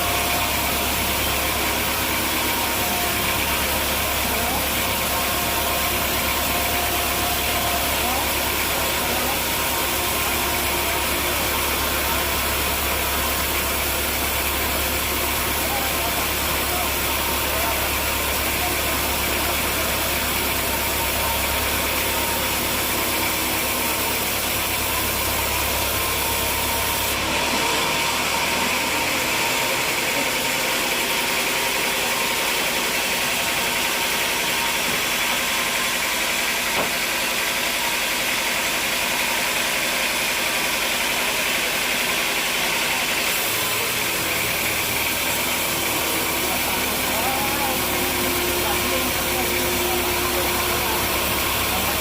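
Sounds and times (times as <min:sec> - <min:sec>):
sawmill machinery hum: 0:00.0 - 0:52.0.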